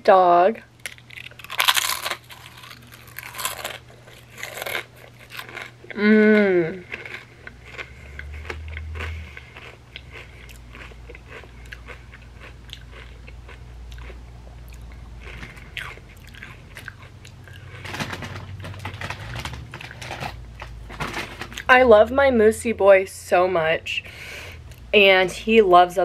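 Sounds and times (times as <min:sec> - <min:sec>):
crunching chips and mouth sounds: 0:00.8 - 0:21.7.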